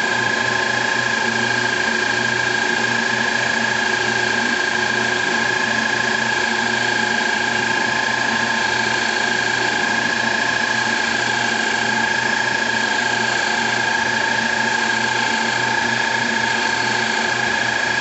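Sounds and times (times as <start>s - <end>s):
lathe cutting metal whine: 0.0s - 18.0s.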